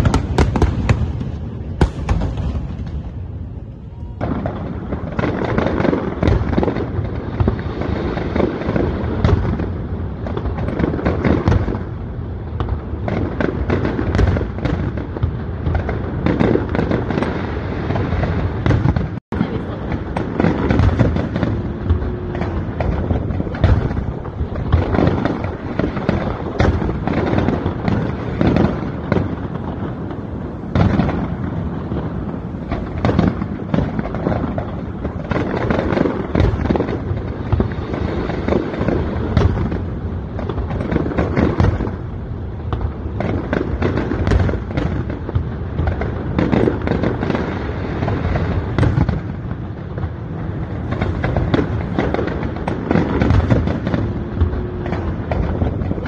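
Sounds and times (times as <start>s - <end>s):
fireworks bursts and crackles: 0.0s - 56.0s.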